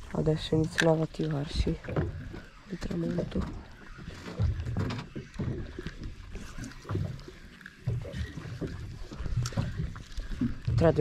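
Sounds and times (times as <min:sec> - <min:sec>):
small waves lapping against boat hull: 0:00.0 - 0:11.0.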